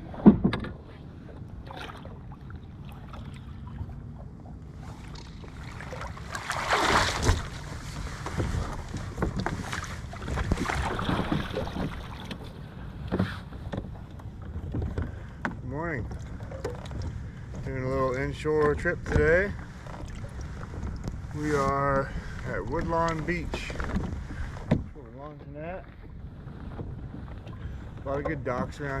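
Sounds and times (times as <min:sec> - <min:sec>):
water splashing around kayak: 0:00.0 - 0:29.0.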